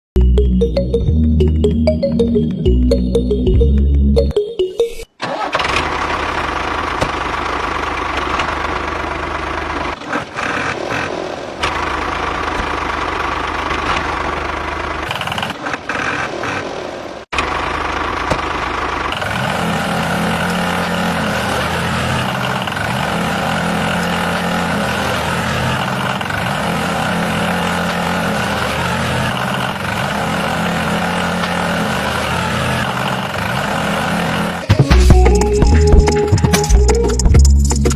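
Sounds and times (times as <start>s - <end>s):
engine running: 0.2s - 4.5s, 5.2s - 37.9s.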